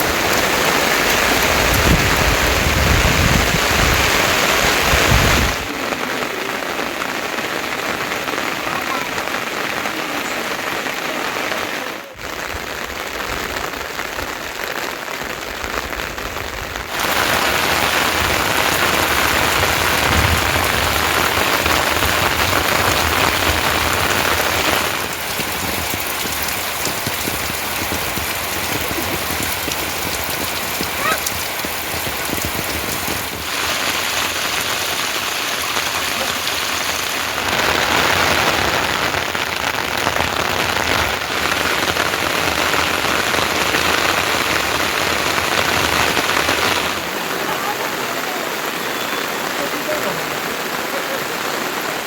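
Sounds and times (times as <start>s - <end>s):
rain falling: 0.0s - 52.0s.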